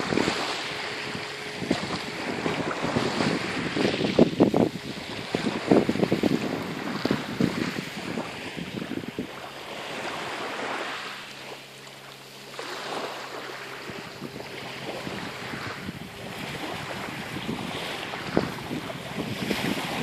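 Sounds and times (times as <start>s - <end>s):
wind buffeting microphone: 0.0s - 10.8s, 12.9s - 20.0s
sea waves washing in: 0.0s - 20.0s.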